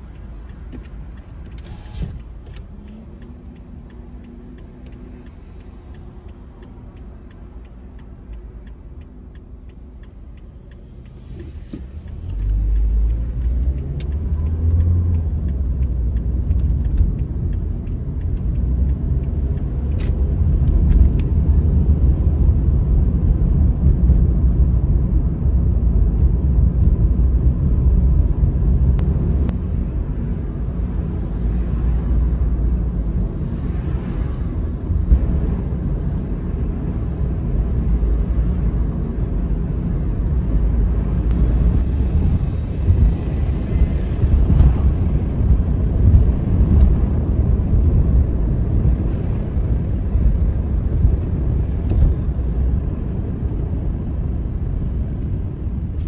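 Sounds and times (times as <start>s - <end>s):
car interior hum: 0.0s - 56.0s
engine and tyre rumble: 0.0s - 56.0s.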